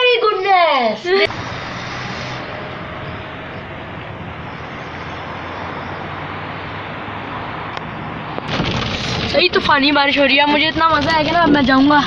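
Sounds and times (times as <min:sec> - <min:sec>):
road and wind noise: 0:00.0 - 0:12.0
car engine hum: 0:01.2 - 0:12.0.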